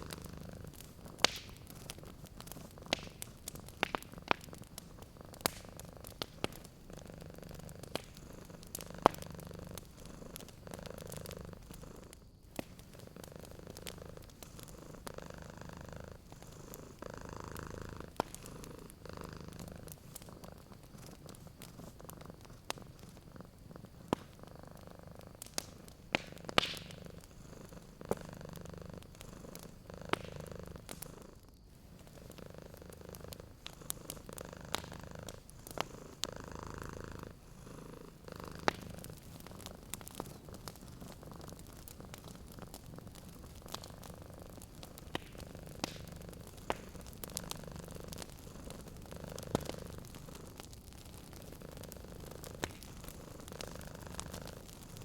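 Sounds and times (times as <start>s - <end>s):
fire pop: 0.0s - 15.5s, 16.3s - 37.2s, 38.2s - 55.0s
cat purring: 0.0s - 55.0s
wood fire crackling: 0.0s - 55.0s.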